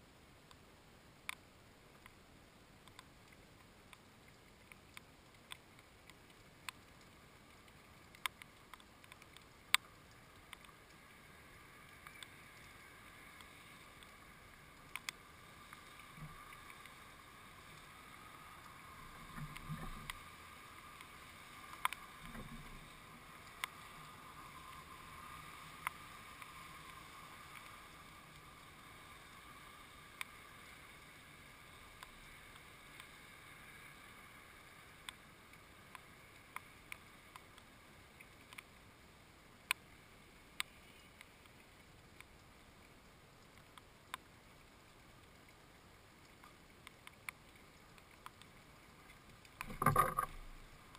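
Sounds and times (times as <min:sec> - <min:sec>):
faint background hiss: 0:00.0 - 0:50.9.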